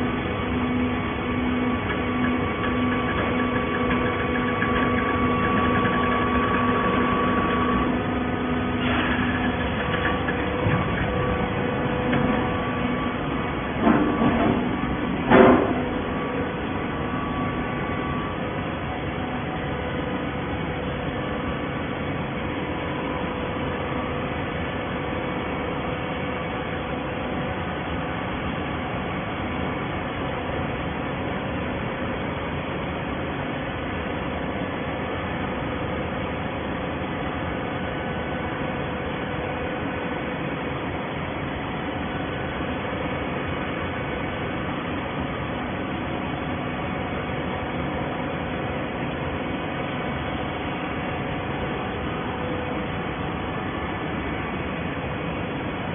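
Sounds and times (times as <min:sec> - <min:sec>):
baler mechanical noise: 0:00.0 - 0:55.9.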